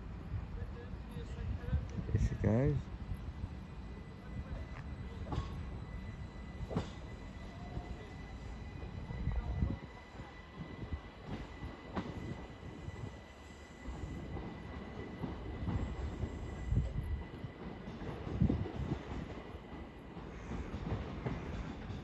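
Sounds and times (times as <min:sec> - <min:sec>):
train wheels rumbling over track: 0:00.0 - 0:22.0.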